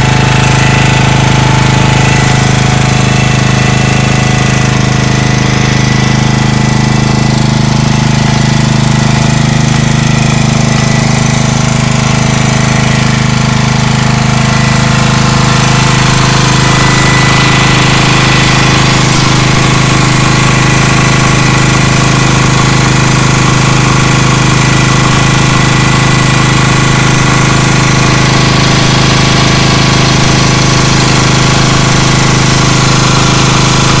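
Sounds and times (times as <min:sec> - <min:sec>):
petrol generator running: 0:00.0 - 0:34.0.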